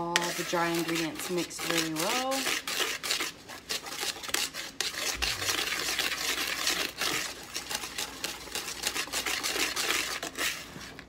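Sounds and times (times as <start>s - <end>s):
whisk scraping plastic bowl: 0.0s - 11.0s.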